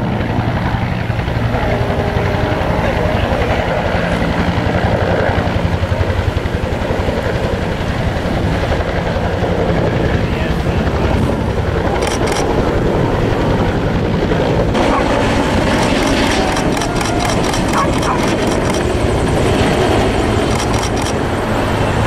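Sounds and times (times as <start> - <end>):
helicopter flying overhead: 0.0 - 22.0.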